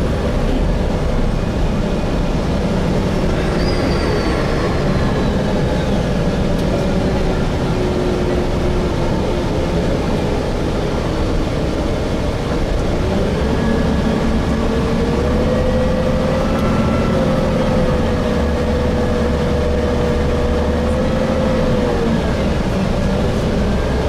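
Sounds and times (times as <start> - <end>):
transmission whine: 0.0 - 23.6
bus drivetrain rumble: 0.0 - 24.0
road noise: 0.0 - 24.0.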